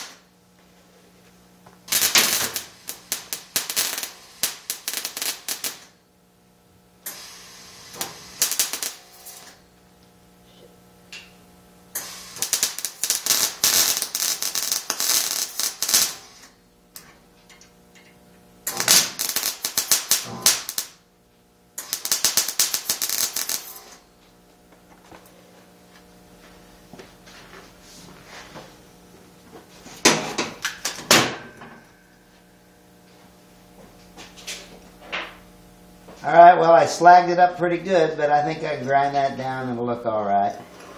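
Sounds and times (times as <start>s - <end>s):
arc welding crackling: 0.0s - 27.3s, 28.6s - 31.4s, 32.0s - 40.9s
steady low hum: 0.0s - 40.9s.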